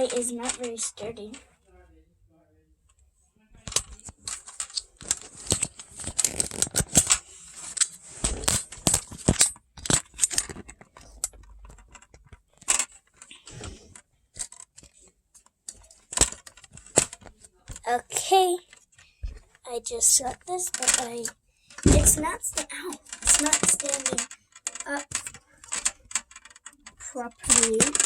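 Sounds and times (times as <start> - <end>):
plastic stand clicking and rattling: 0.0 - 1.4, 3.6 - 28.0.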